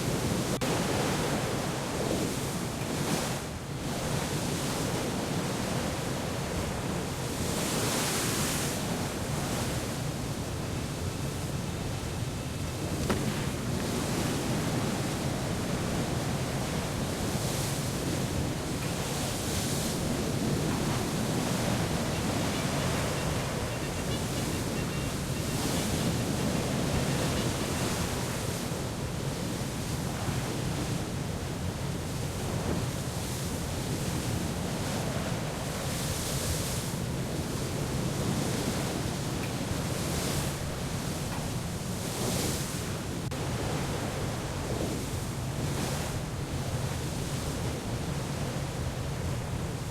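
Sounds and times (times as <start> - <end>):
sea waves rushing: 0.0 - 49.9
wind: 0.0 - 49.9.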